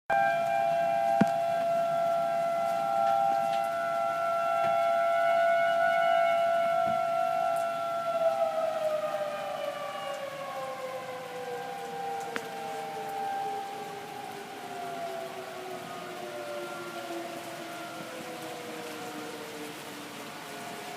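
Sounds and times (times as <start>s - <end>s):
tornado siren wailing: 0.1s - 20.9s.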